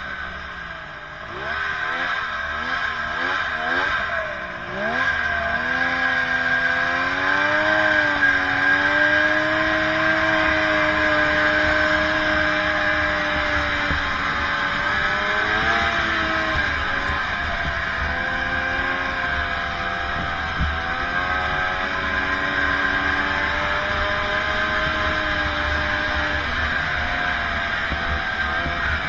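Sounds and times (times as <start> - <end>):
snowmobile engine: 0.0 - 29.0.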